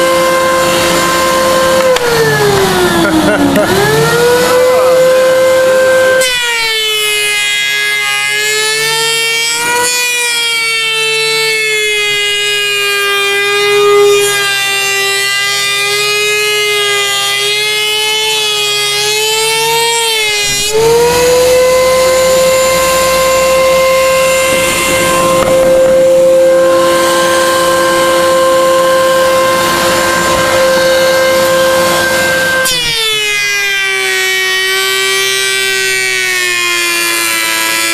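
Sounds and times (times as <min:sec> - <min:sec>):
planer cutting wood: 0:00.0 - 0:37.9
planer motor whine: 0:00.0 - 0:37.9.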